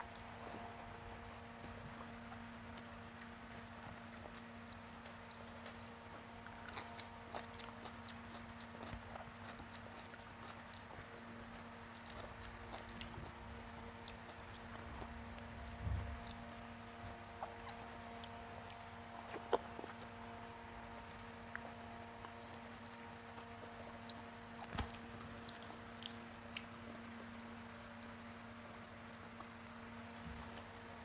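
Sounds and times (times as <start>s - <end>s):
faint steady hum: 0.0s - 31.0s
wet chewing with mouth clicks: 0.0s - 31.0s.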